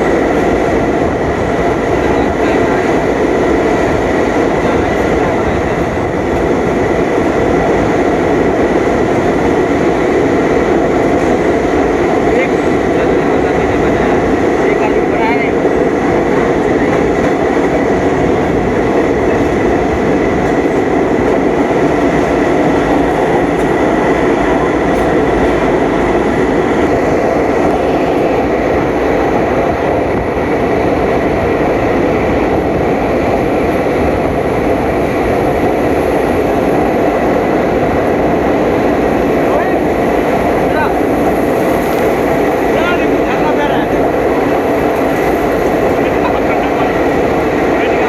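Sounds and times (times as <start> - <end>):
passenger train rumbling: 0.0 - 48.0.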